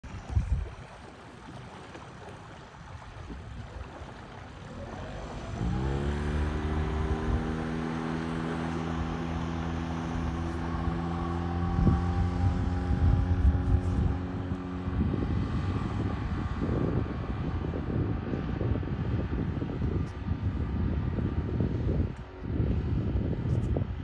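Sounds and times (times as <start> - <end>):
wind and water hiss: 0.0 - 24.0
outboard motor revving: 0.1 - 23.2.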